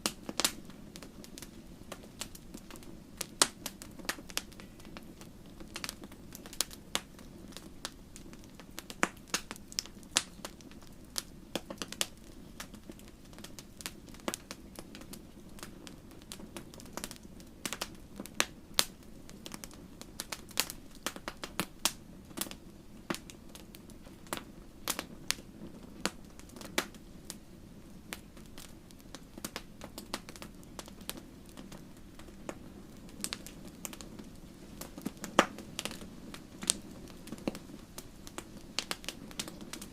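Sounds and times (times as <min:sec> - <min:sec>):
low rush of flame: 0:00.0 - 0:39.9
wood fire crackling: 0:00.0 - 0:39.9.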